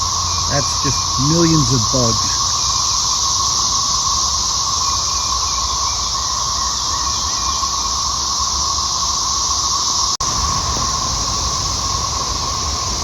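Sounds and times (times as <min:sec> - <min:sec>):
cicada chorus: 0:00.0 - 0:13.0.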